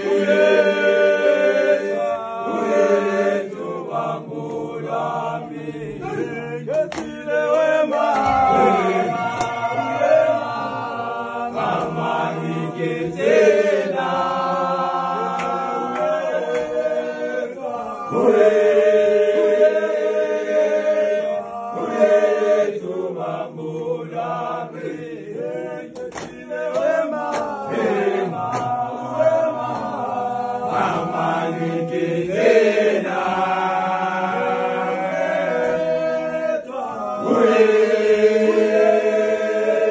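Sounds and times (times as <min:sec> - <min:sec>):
men singing a chant in harmony: 0:00.0 - 0:39.9.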